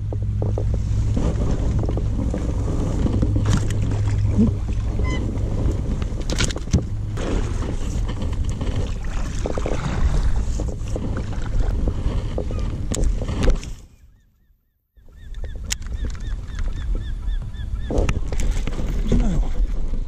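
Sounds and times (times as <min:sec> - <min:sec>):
wind rumbling on microphone: 0:00.0 - 0:14.2, 0:15.0 - 0:20.0.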